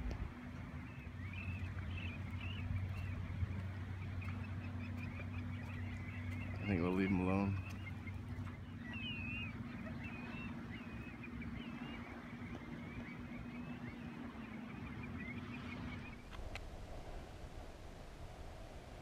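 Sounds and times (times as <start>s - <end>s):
terns and gulls calling: 0.0s - 16.3s
low hum: 0.0s - 19.0s.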